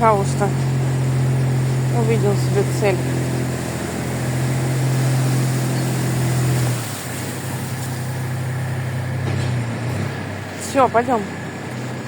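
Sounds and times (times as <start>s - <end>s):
tractor engine driving past: 0.0s - 12.0s.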